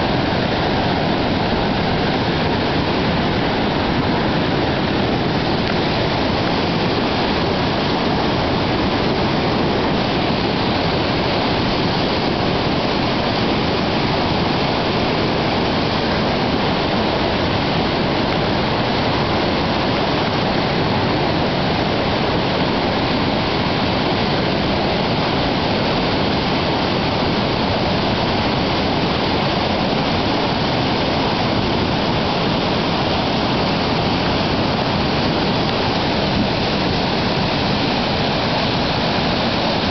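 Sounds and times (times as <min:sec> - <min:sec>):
whitewater rapids roaring: 0:00.0 - 0:39.9.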